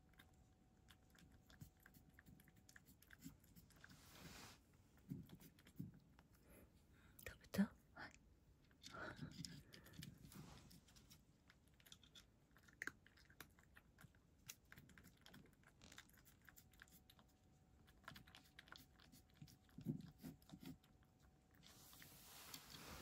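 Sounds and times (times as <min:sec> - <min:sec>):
cat chewing food: 0:00.0 - 0:07.2, 0:08.5 - 0:23.0.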